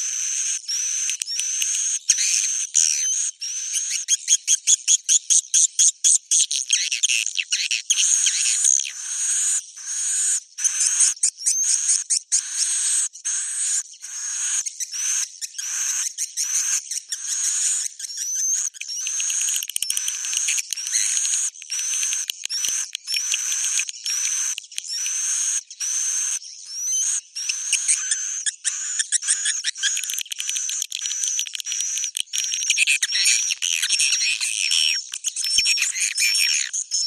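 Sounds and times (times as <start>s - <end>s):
high twittering bird chirps: 0.0s - 37.0s.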